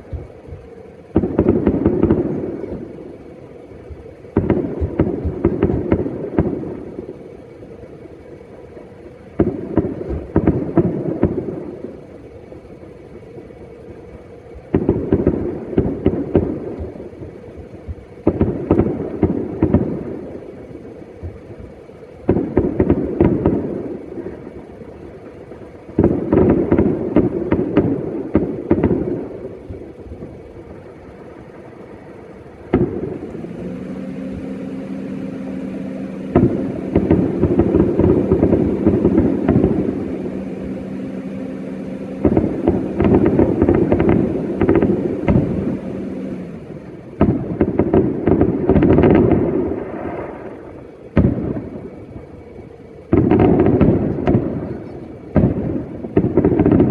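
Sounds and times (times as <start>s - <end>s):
fireworks crackling and booming: 0.0s - 56.9s
steady low hum: 0.0s - 56.9s.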